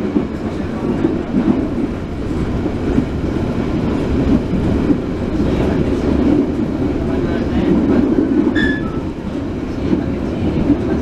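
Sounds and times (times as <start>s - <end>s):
train running noise inside carriage: 0.0s - 11.0s.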